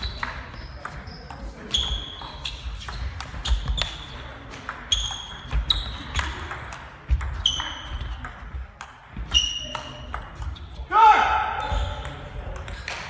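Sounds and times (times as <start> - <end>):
table tennis balls clicking: 0.0 - 10.6.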